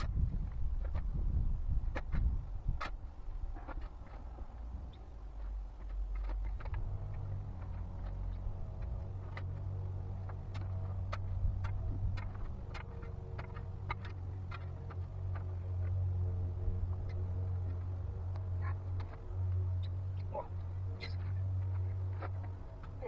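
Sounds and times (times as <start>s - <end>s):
low motor hum: 0.0s - 23.0s.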